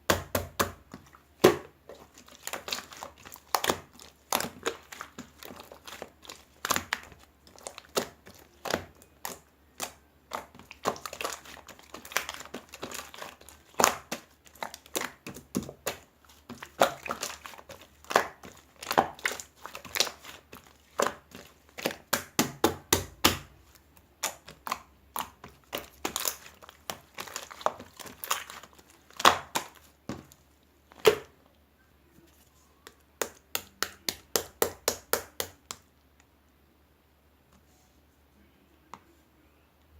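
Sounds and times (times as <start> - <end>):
crinkling and crackling: 0.8 - 22.4, 23.4 - 36.3.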